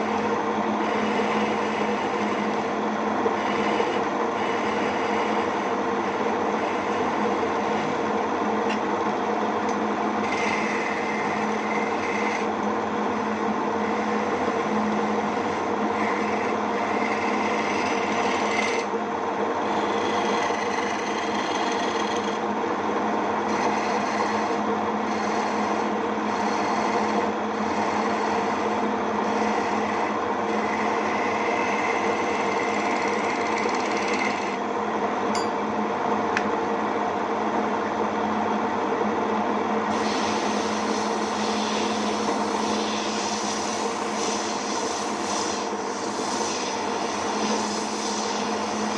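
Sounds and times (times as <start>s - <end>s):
rasping on spinning wood: 0.0s - 8.1s, 10.1s - 19.0s, 19.6s - 22.5s, 23.4s - 34.6s, 39.9s - 48.9s
lathe motor hum: 0.0s - 35.3s, 35.9s - 48.9s.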